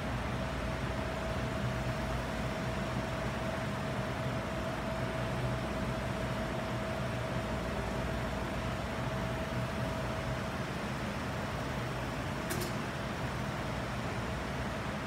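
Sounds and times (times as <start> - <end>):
faint constant hum: 0.0 - 15.0.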